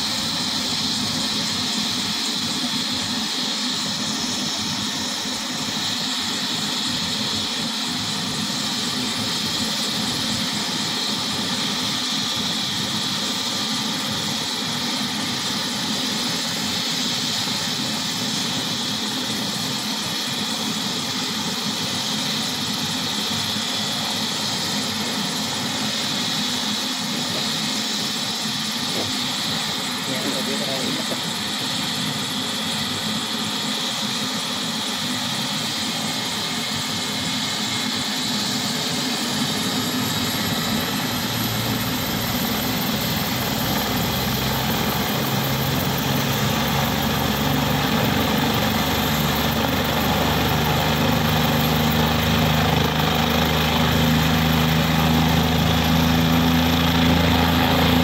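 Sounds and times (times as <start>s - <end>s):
helicopter engine whine: 0.0s - 58.0s
helicopter rotor noise: 0.0s - 58.0s.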